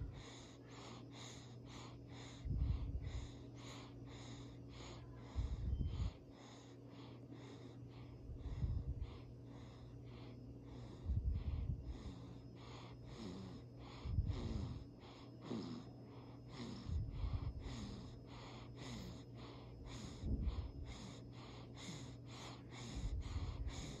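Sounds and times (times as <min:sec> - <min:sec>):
baby snoring softly: 0:00.0 - 0:24.0.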